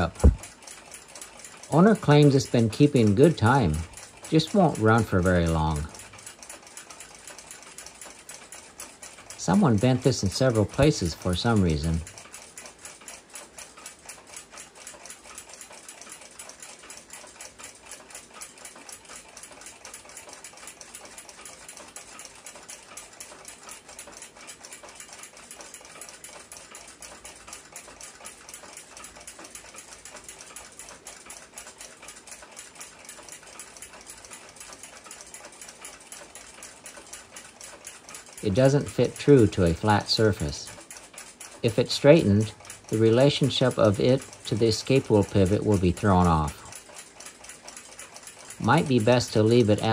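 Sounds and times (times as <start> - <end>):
clock ticking fast: 0.0 - 49.9.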